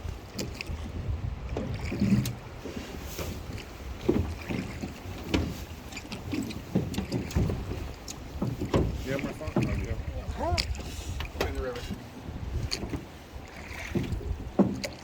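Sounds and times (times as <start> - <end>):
river water around boat: 0.0 - 15.0
wind on microphone: 0.0 - 15.0.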